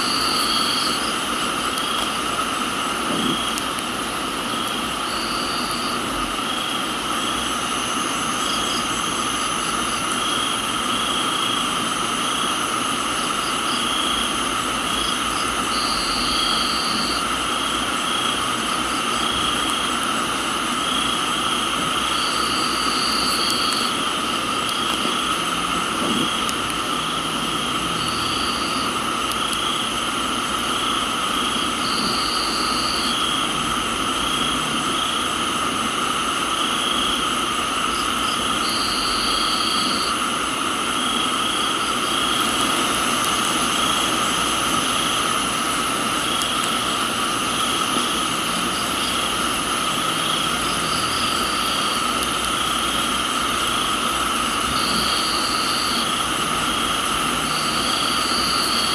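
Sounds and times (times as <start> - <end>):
crickets and insects trilling: 0.0 - 58.9
high buzzing insect call: 0.0 - 58.9
pulsing insect call: 0.0 - 58.9
rain hiss: 0.0 - 58.9.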